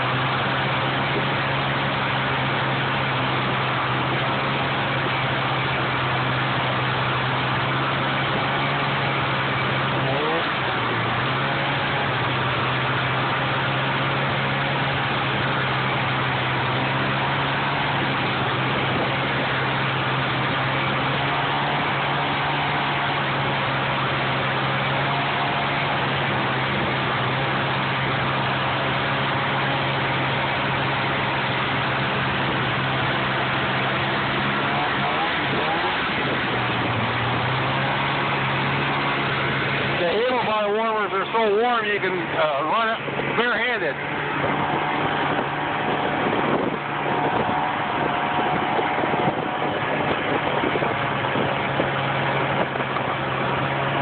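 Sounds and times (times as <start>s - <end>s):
snowmobile engine droning: 0.0s - 54.0s.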